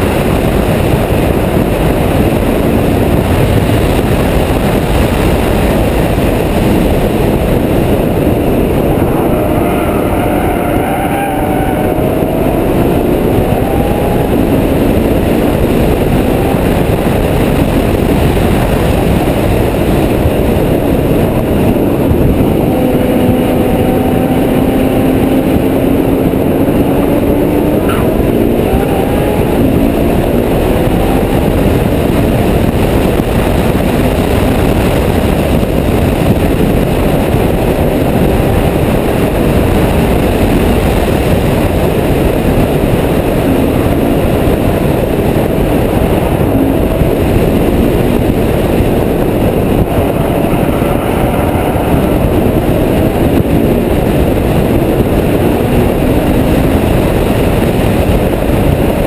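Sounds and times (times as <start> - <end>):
car engine running hard: 0.0 - 59.0
wind noise on microphone: 0.0 - 59.0.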